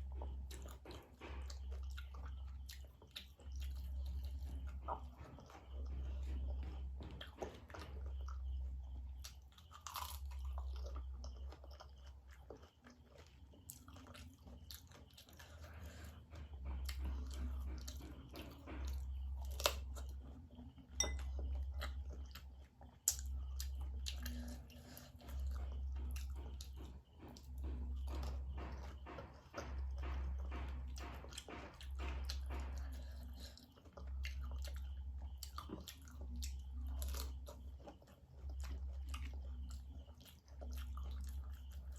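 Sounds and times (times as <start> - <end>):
crunching and chewing: 0.0 - 41.9.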